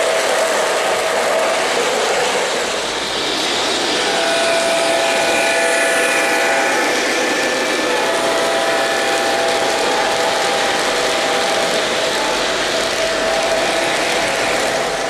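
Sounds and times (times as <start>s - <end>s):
model train wheels on metal track: 0.0s - 15.0s.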